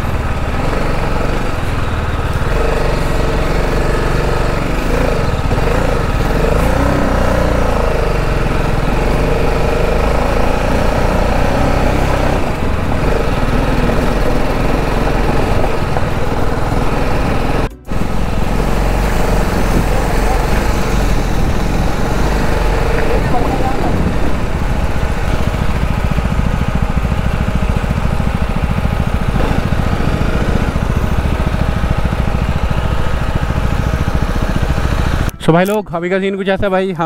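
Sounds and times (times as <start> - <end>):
motorcycle engine rumbling: 0.0 - 37.0.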